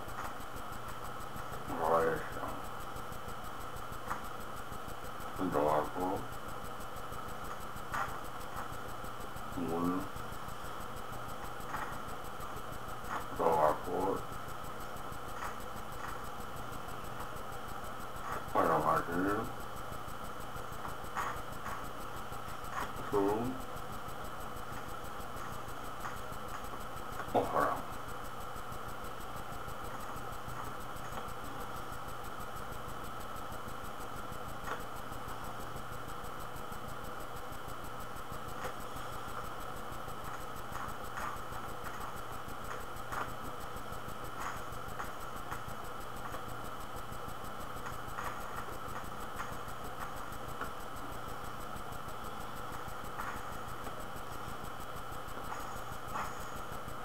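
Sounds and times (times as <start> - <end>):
room tone hum and hiss: 0.0 - 57.0.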